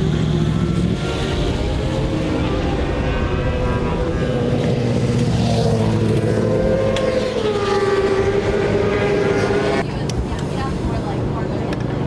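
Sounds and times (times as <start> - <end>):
racing motorcycle engine running: 0.0 - 12.0.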